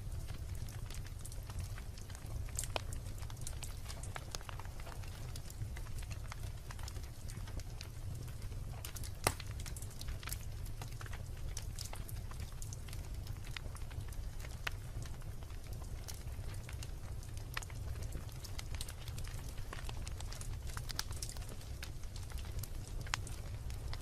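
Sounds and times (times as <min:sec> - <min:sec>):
low steady fire rumble: 0:00.0 - 0:24.0
wood fire crackling and popping: 0:00.0 - 0:24.0.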